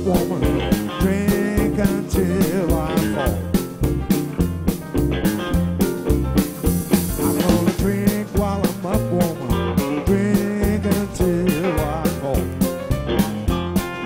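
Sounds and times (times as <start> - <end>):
amplified blues harmonica: 0.0 - 14.0
drum kit: 0.0 - 14.0
electric bass: 0.0 - 14.0
electric guitar: 0.0 - 14.0
keyboard: 0.0 - 14.0.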